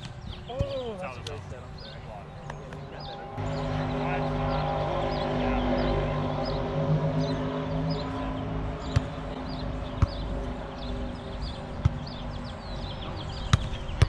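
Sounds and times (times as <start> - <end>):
low engine hum: 0.0 - 14.0
small birds chirping: 0.0 - 14.0.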